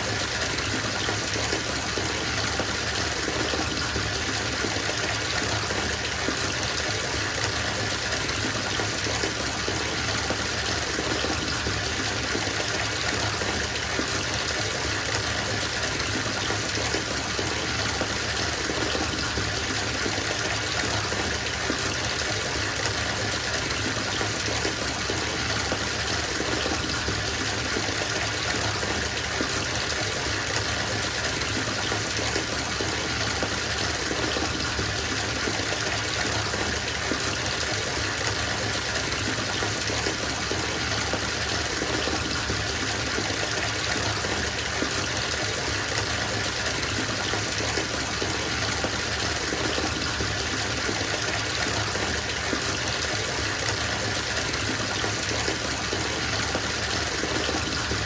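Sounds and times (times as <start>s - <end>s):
water gushing into bathtub: 0.0s - 58.0s.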